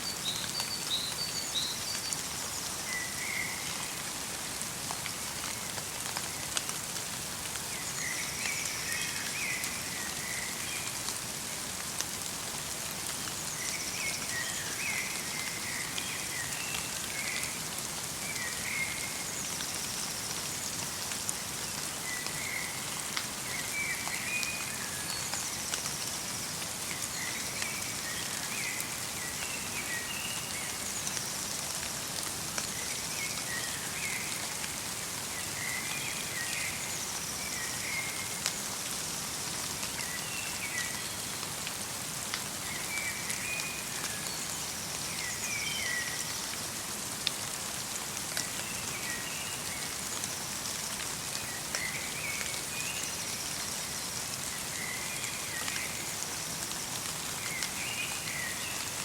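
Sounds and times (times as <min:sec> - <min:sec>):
light rain in forest: 0:00.0 - 0:59.0.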